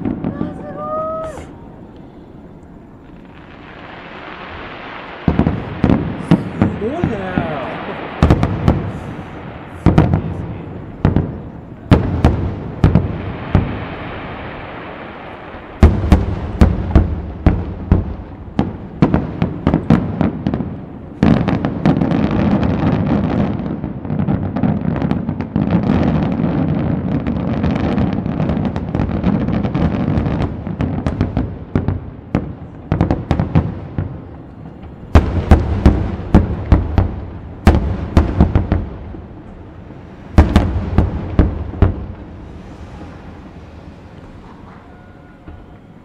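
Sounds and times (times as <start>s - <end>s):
fireworks bursting with bangs: 0.0s - 46.0s
fireworks rumble and crackle: 0.0s - 46.0s.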